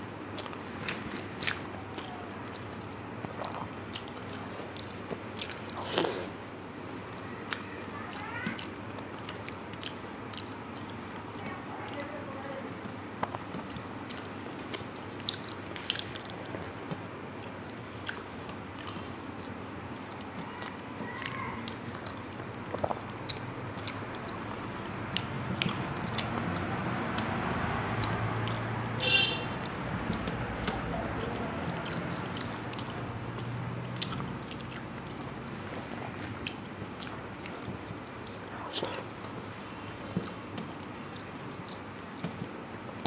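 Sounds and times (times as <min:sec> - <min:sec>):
person chewing food: 0:00.2 - 0:12.1, 0:12.8 - 0:43.0.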